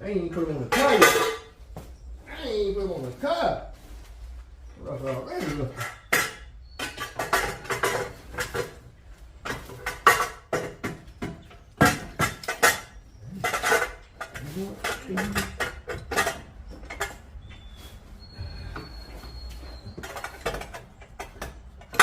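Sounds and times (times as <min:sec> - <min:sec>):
metal clanking and rattling: 0:00.2 - 0:01.8, 0:04.9 - 0:22.0.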